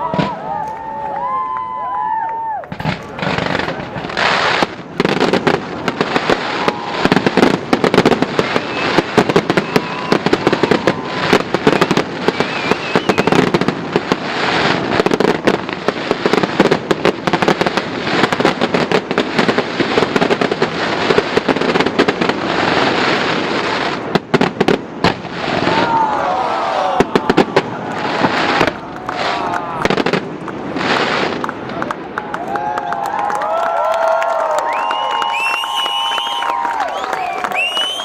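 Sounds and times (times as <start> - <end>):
fireworks popping and crackling: 0.0 - 38.0.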